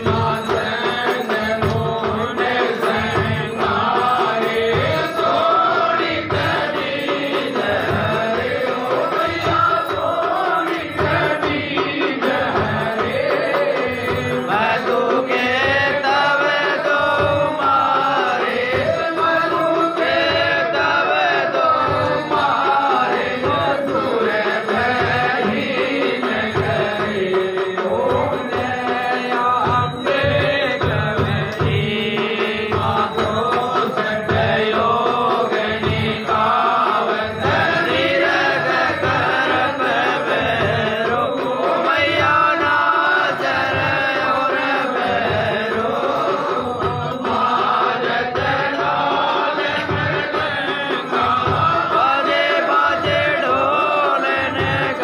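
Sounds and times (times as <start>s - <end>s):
steady drum beat: 0.0s - 55.0s
voices singing devotional chant: 0.0s - 55.0s.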